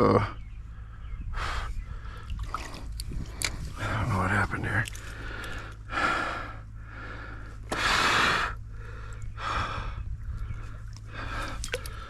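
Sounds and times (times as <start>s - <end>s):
man breathing heavily: 0.6s - 4.1s, 4.9s - 12.0s.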